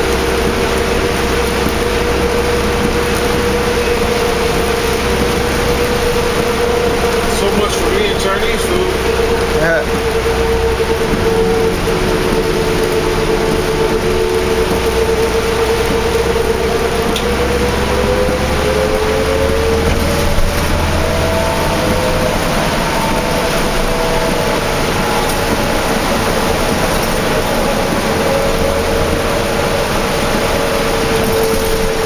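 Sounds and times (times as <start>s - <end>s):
bus engine whine: 0.0s - 32.0s
rain: 0.0s - 32.0s
road noise: 0.0s - 32.0s.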